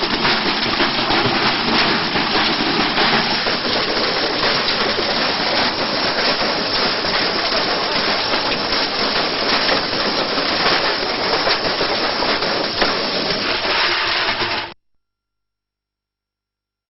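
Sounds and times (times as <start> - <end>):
brick rattling in washing machine drum: 0.0 - 14.8.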